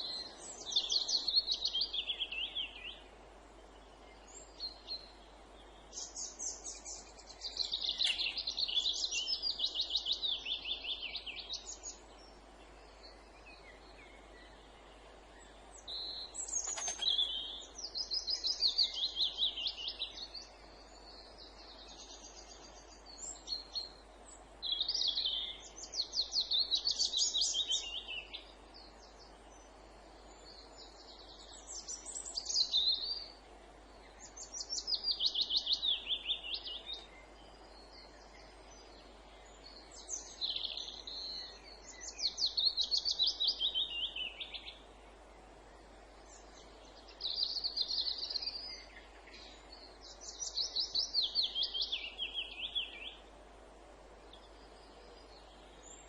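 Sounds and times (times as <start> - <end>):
low background hiss: 0.0 - 56.0
songbird singing: 0.0 - 56.0.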